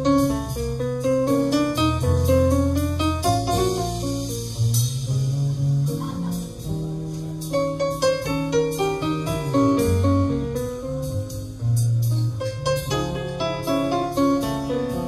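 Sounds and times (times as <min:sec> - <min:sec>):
jazz ballad by small combo: 0:00.0 - 0:15.0.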